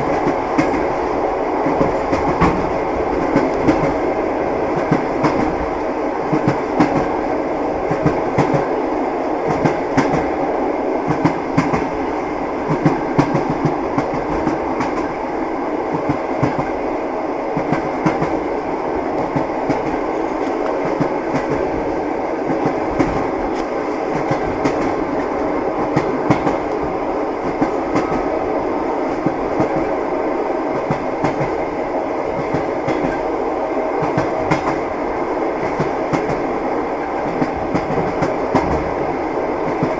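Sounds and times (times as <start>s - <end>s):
train wheels clacking: 0.0s - 7.2s, 7.8s - 8.8s, 9.4s - 10.4s, 11.0s - 15.2s, 15.9s - 16.8s, 17.6s - 28.4s, 29.1s - 30.0s, 30.7s - 31.7s, 32.3s - 39.0s, 39.6s - 39.9s
train rolling rumble: 0.0s - 39.9s.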